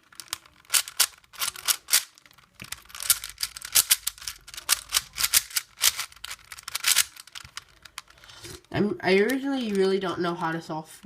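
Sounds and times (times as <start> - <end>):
puzzle cube layers clacking: 0.0 - 9.9.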